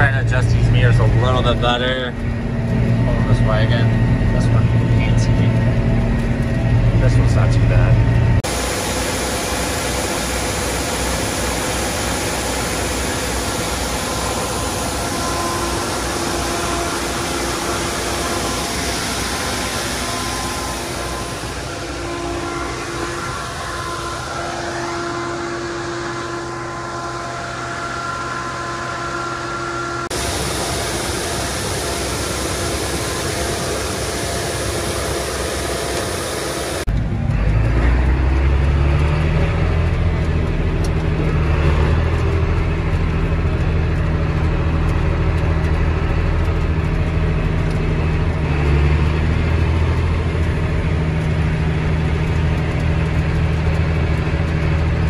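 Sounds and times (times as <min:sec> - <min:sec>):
heavy diesel farm machinery engine: 0:00.0 - 0:55.0.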